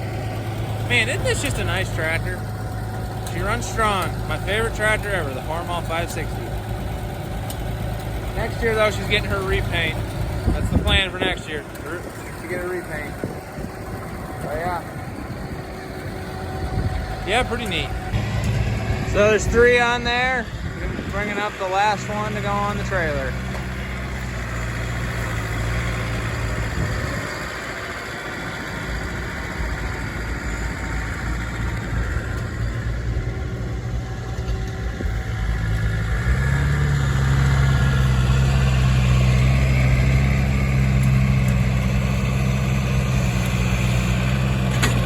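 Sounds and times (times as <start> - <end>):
tractor engine idling: 0.0 - 45.0.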